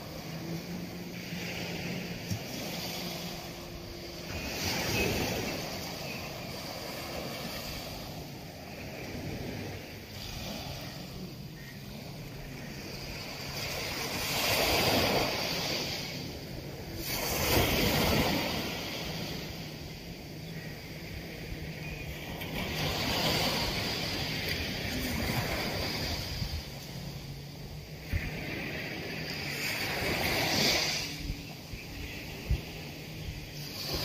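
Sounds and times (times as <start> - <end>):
waves breaking on beach: 0.0 - 34.0.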